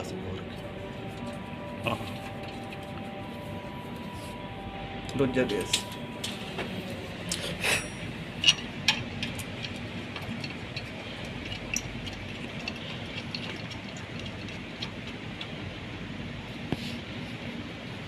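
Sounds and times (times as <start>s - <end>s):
machinery running: 0.0s - 18.0s.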